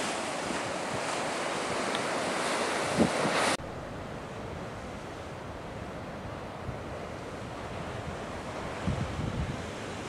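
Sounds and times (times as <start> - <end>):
sea surf against rocks: 0.0 - 10.0
wind buffeting microphone: 0.0 - 10.0.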